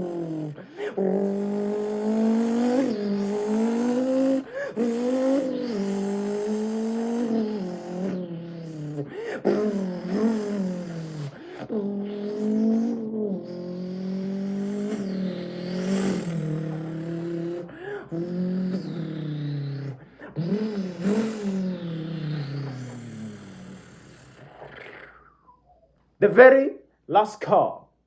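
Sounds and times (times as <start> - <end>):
man imitating car engine: 0.0 - 25.3.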